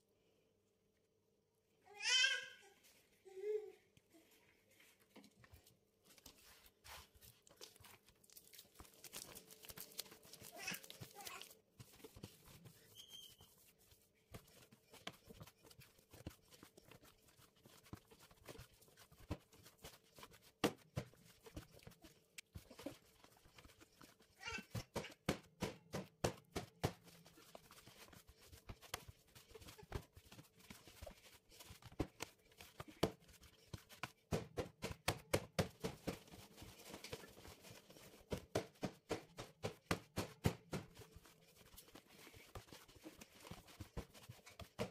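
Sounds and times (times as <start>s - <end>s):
dough kneaded in metal bowl: 4.5s - 44.9s.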